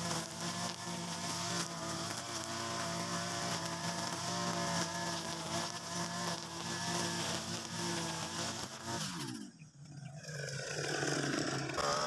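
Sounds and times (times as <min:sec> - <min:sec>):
brush cutter running: 0:00.0 - 0:12.0
trimmer line cutting grass: 0:00.0 - 0:12.0.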